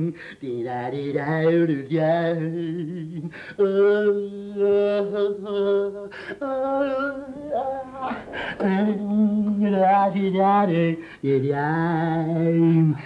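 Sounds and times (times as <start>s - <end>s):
man singing unaccompanied chant: 0.0s - 13.0s.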